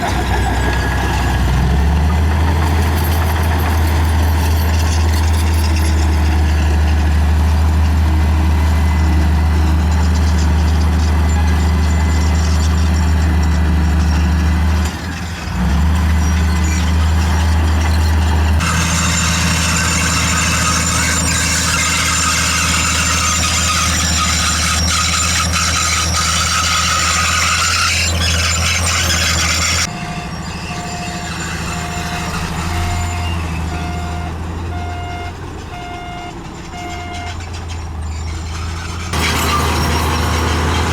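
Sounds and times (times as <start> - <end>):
diesel engine drone: 0.0 - 40.9.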